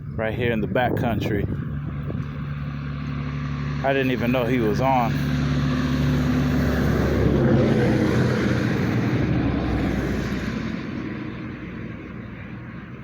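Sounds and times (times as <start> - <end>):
vehicle driving past: 1.2 - 13.0.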